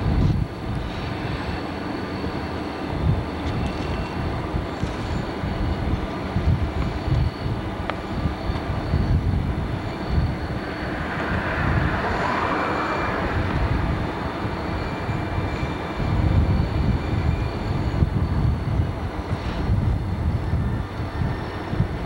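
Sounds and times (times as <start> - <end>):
diesel locomotive rumbling: 0.0 - 22.0.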